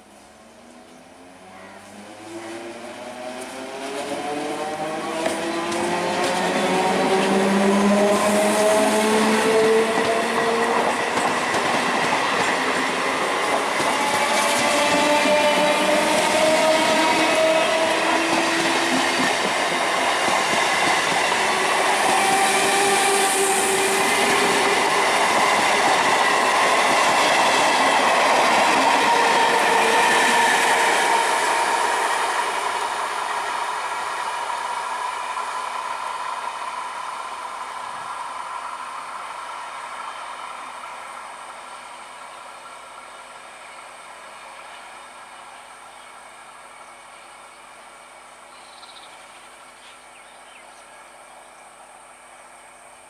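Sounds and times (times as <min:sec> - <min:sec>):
electric train passing: 0:00.0 - 0:53.0.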